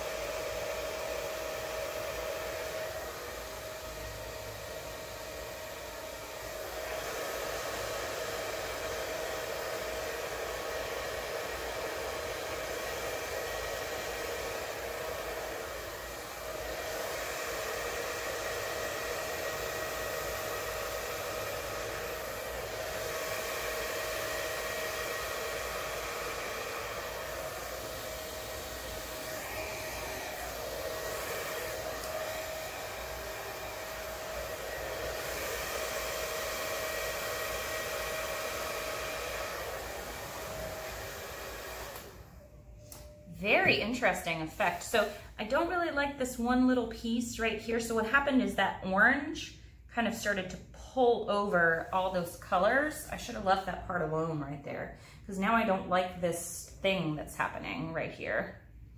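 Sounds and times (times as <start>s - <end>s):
hair dryer whining: 0.0s - 58.9s.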